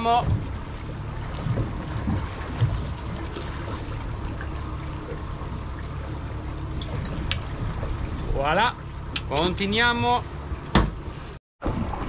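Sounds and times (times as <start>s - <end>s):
outboard motor running: 0.0s - 11.4s
water washing along hull: 0.0s - 12.0s.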